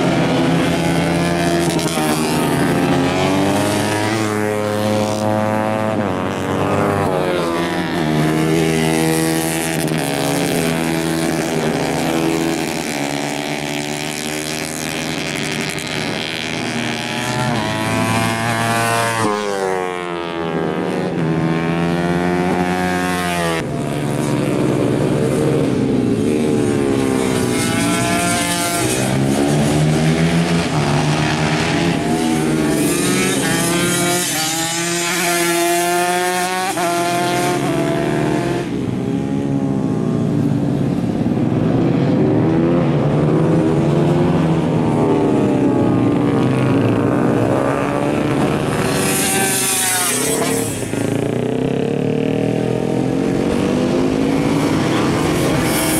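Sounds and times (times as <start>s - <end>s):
racing motorcycles revving: 0.0s - 55.9s.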